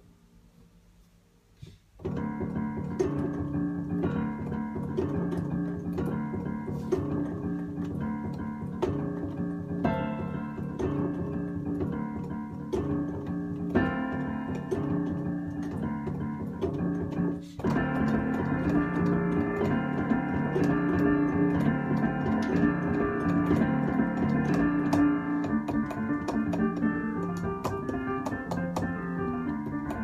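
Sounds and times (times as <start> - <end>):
cajon beat: 2.0 - 30.0
fast piano music: 2.0 - 30.0.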